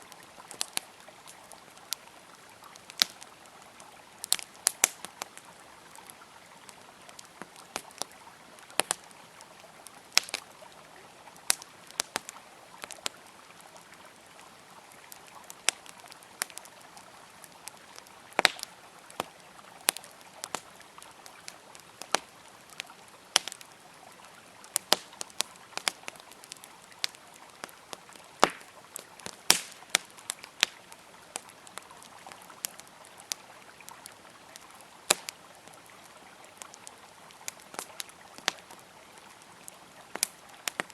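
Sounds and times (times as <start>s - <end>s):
campfire crackling and popping: 0.0s - 40.9s
river water flowing: 0.0s - 40.9s.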